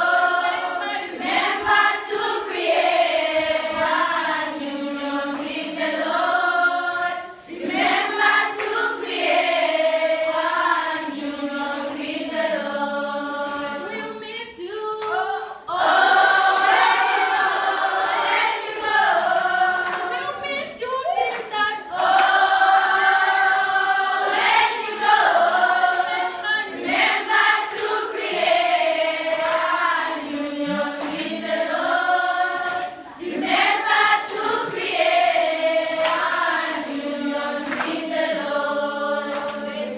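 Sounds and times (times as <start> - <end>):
girls choir singing: 0.0 - 39.9.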